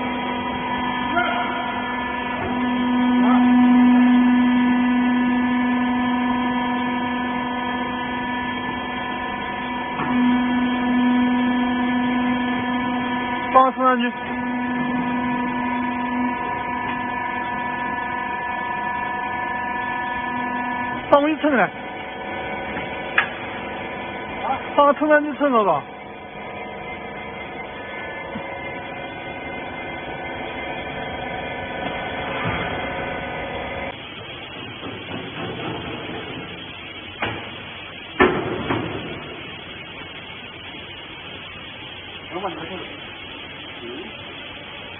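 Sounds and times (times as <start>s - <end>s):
hydraulic power unit humming: 0.0s - 44.9s.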